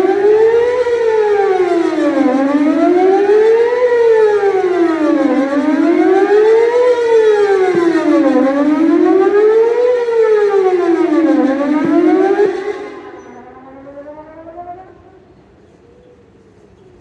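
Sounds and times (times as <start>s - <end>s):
warning siren rising and falling: 0.0s - 15.7s.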